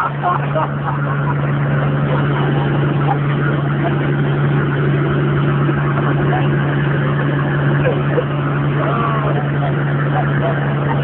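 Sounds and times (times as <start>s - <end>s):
diesel engine idling with clatter: 0.0s - 11.0s.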